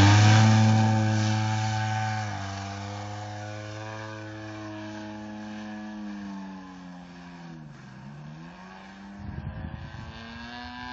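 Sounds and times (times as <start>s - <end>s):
model plane engine buzzing: 0.0s - 10.9s.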